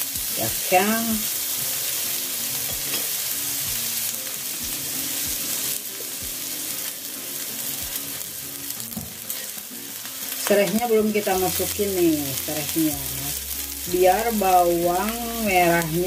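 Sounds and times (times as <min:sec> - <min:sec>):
shallots sizzling in hot oil: 0:00.0 - 0:16.0.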